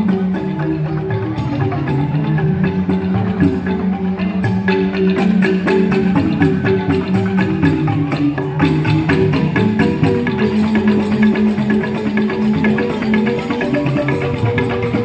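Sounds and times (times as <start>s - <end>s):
bamboo xylophones played fast: 0.0s - 15.0s
percussion strokes: 0.0s - 15.0s.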